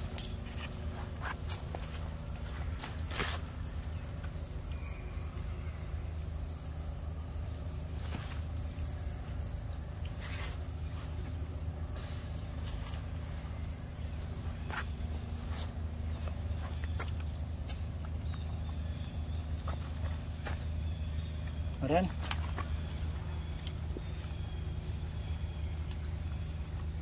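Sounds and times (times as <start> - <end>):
droning insects: 0.0 - 27.0.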